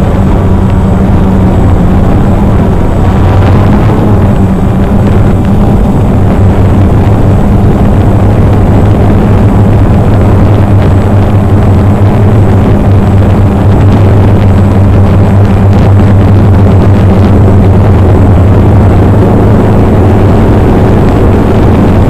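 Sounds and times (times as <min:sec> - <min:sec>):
drone motors buzzing: 0:00.0 - 0:22.0.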